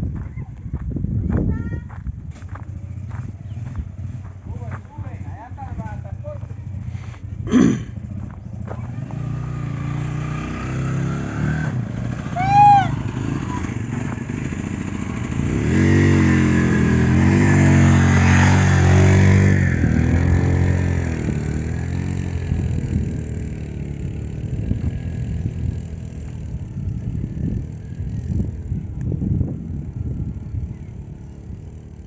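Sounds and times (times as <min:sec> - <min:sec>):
vehicle engine revving: 0:02.4 - 0:32.0.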